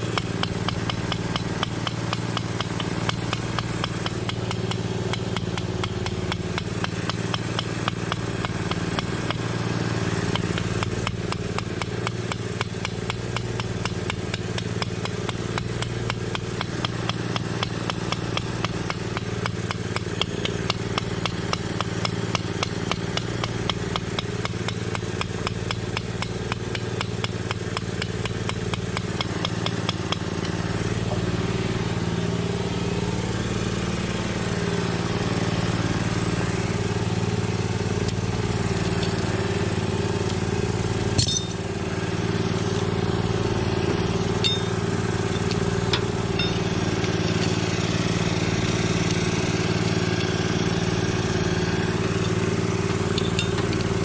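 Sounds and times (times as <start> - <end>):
engine running with fast ticking: 0.0 - 54.0.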